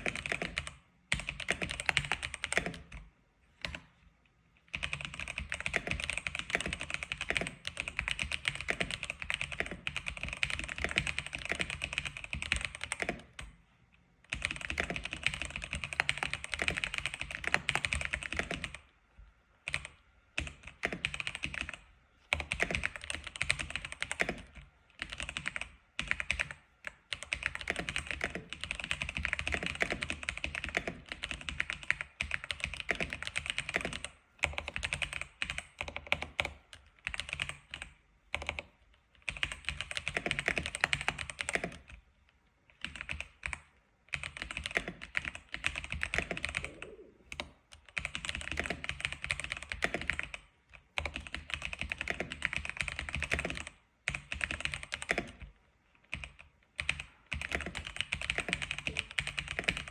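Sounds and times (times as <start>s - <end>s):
keyboard typing: 0.0s - 3.9s, 4.7s - 13.5s, 14.3s - 18.8s, 19.7s - 42.0s, 42.7s - 55.5s, 56.1s - 59.9s.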